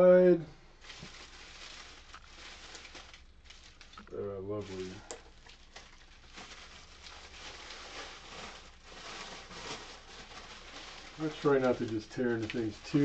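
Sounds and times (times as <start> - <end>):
bubble wrap crinkling: 0.8 - 13.0.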